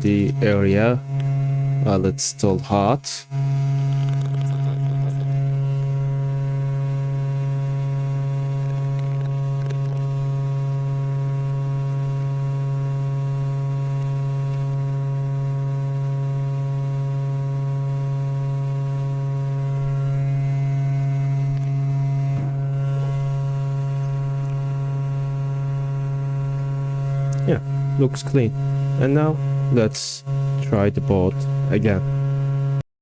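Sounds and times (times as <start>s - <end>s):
low electrical hum: 0.0s - 32.8s.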